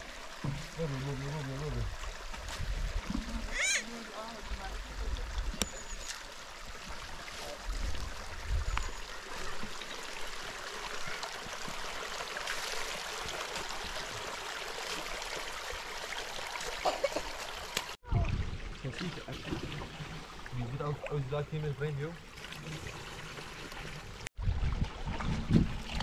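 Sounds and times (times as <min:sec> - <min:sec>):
water rushing: 0:00.0 - 0:24.3.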